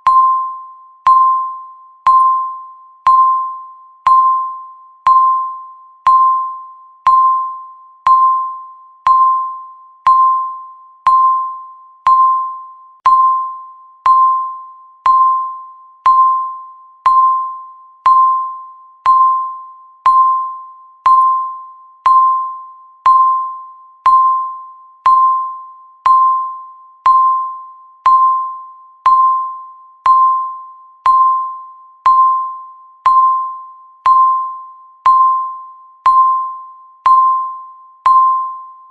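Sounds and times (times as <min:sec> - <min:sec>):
electronic timer beeps: 0:00.0 - 0:38.9.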